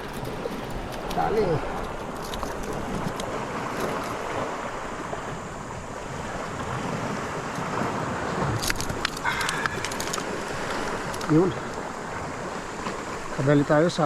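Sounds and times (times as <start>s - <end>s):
water lapping around boat: 0.0s - 14.0s
wind on microphone: 0.0s - 14.0s.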